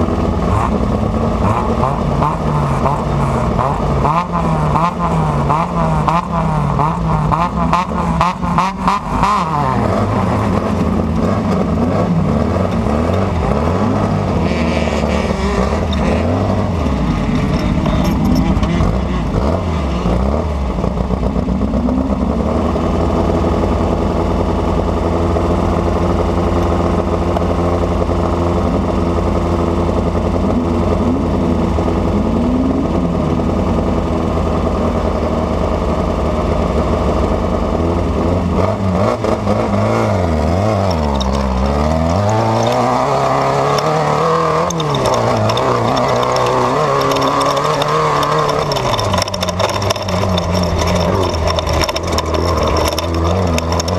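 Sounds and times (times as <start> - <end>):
race car engine running hard: 0.0 - 53.9.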